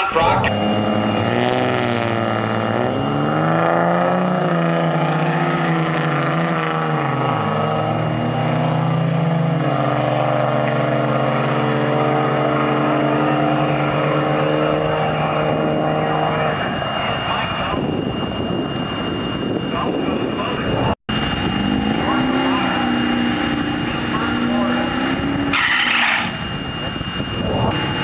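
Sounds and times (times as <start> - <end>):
diesel truck engine at full throttle: 0.0 - 28.0.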